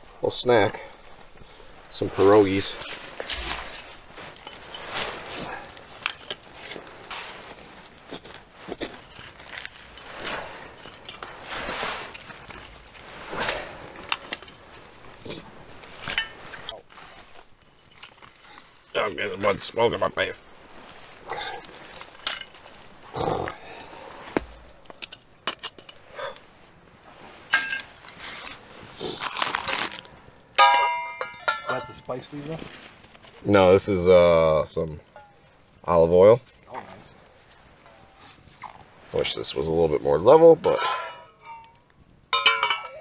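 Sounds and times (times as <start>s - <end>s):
sticks rustling: 0.0s - 33.8s, 35.0s - 43.0s
campfire embers cracking: 0.0s - 43.0s.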